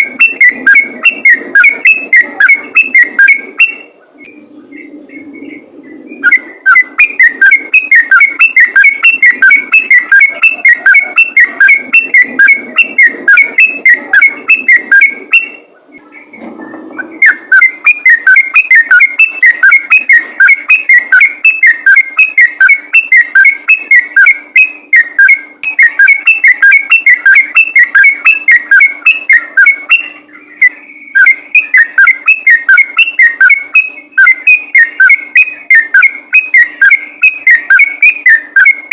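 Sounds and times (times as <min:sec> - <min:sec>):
bulbul whistled song: 0:00.0 - 0:38.9.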